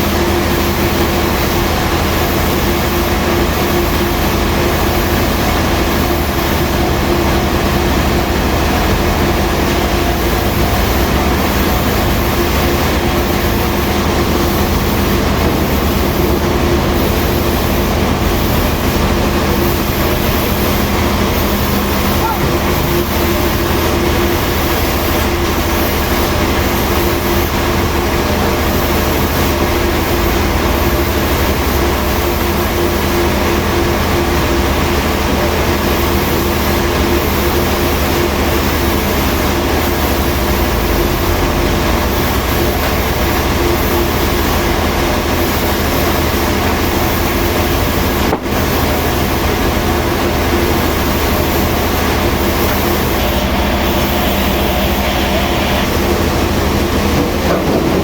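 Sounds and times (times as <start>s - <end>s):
heavy sawmill machinery whirring: 0.0s - 58.0s.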